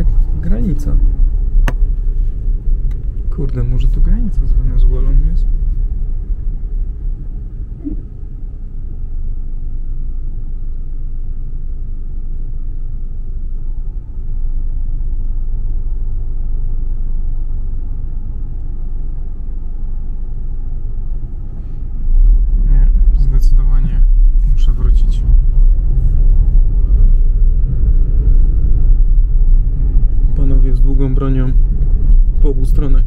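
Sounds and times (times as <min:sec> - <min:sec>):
car driving on dirt road: 0:00.0 - 0:33.0.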